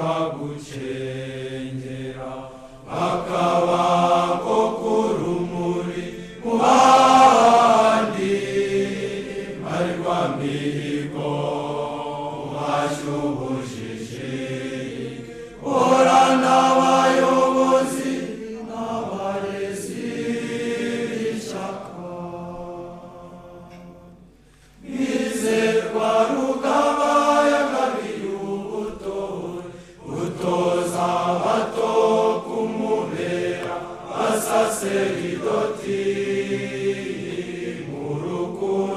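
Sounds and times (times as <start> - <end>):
choir singing a slow chant: 0.0 - 38.9.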